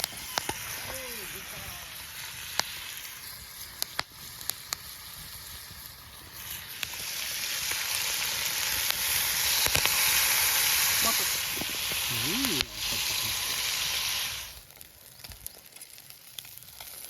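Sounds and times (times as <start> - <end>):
campfire pops: 0.0 - 17.0
food sizzling over campfire: 0.0 - 17.0.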